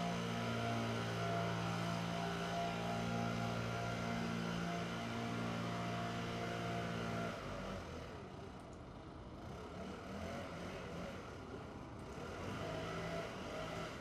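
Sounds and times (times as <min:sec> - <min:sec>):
leaf blowers droning: 0:00.0 - 0:08.3, 0:09.5 - 0:14.0.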